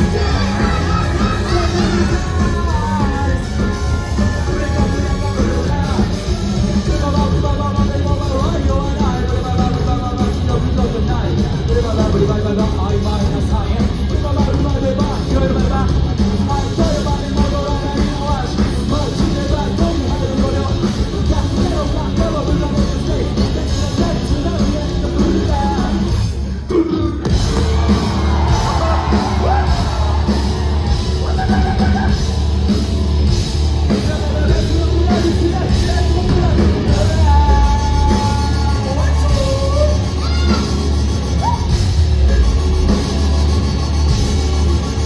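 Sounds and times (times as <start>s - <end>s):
shouted and sung vocals: 0.0s - 32.8s, 33.8s - 43.8s
live rock band playing: 0.0s - 45.0s.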